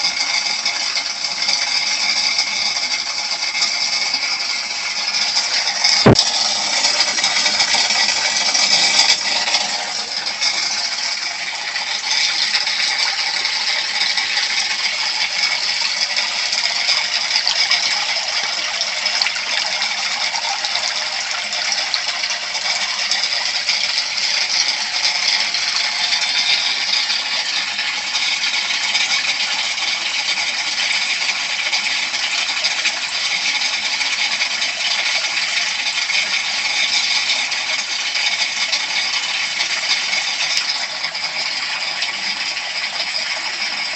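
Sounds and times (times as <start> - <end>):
water splashing into tank: 0.0 - 43.9.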